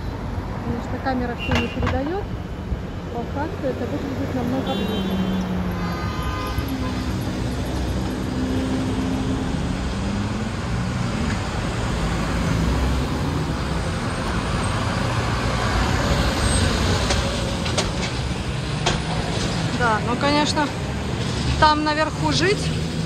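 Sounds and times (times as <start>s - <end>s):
traffic driving by: 0.0s - 23.0s.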